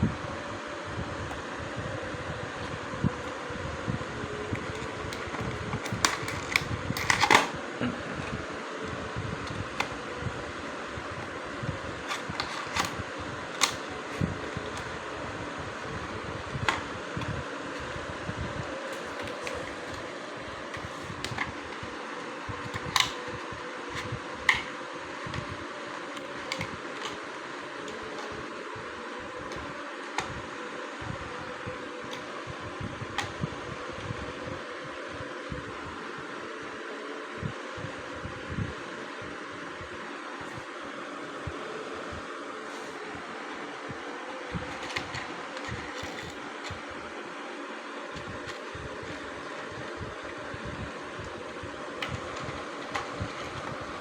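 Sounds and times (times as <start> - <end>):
steady fan hiss: 0.0 - 54.0.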